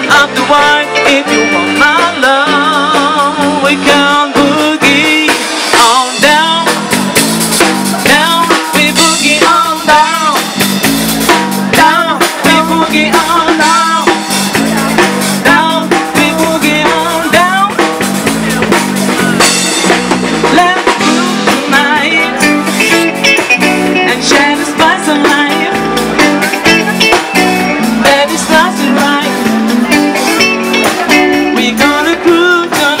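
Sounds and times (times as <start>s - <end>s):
woman singing: 0.0s - 7.0s, 8.0s - 10.6s, 11.6s - 14.4s, 15.4s - 17.9s, 20.4s - 33.0s
live blues-funk band: 0.0s - 33.0s.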